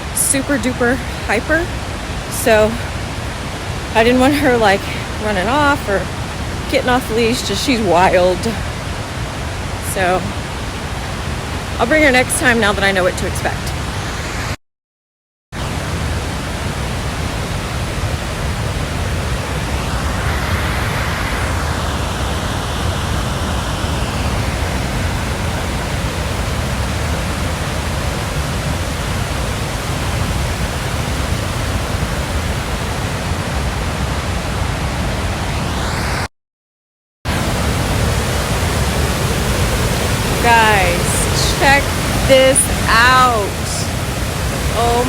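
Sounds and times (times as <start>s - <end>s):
waterfall rushing: 0.0s - 14.6s, 15.6s - 36.0s, 37.3s - 45.0s.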